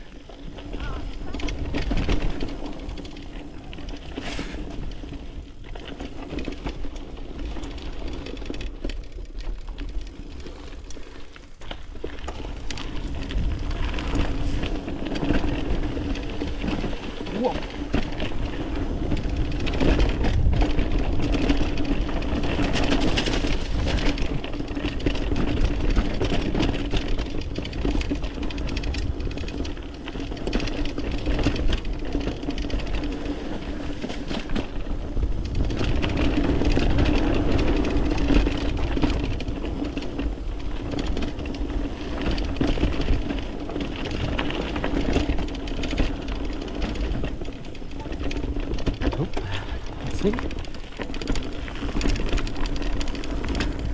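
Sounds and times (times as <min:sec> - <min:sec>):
bike rattling and clicking: 0:00.0 - 0:53.9
bike tyres rumbling over dirt: 0:00.0 - 0:53.9.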